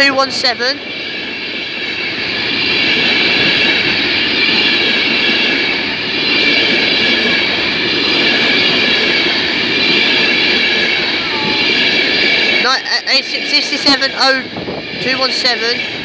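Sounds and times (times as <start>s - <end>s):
high-pitched whine: 0.0s - 16.0s
train wheels rumbling on track: 0.0s - 16.0s.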